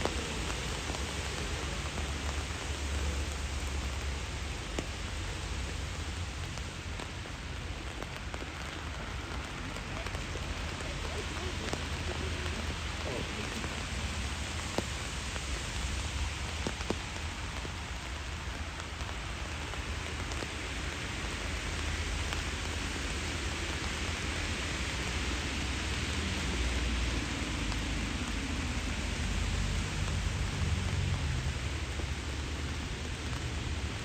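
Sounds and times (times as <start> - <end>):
rain hissing on street: 0.0 - 34.0.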